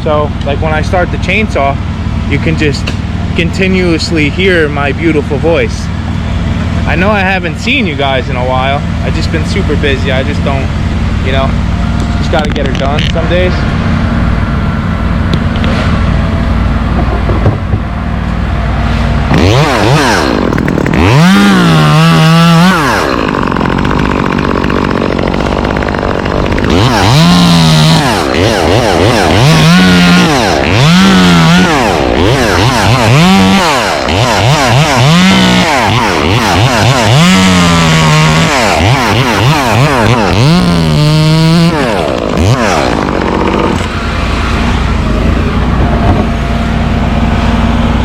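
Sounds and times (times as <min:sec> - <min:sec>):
chainsaw idling and revving: 0:00.0 - 0:16.9, 0:17.9 - 0:48.0.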